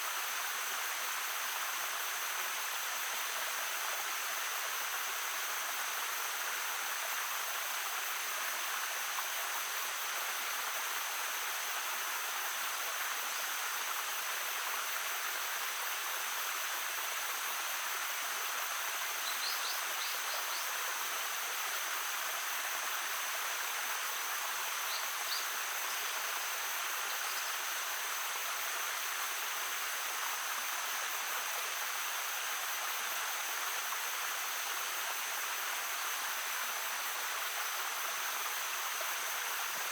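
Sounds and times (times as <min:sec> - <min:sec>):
water running over stones: 0:00.0 - 0:39.9.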